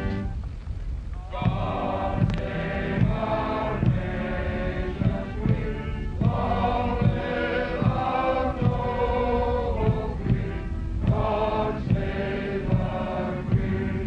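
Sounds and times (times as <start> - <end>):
massed voices singing a hymn: 0.0 - 0.4, 1.2 - 14.0
band accompaniment: 0.0 - 14.0
low drum beat: 0.0 - 14.0.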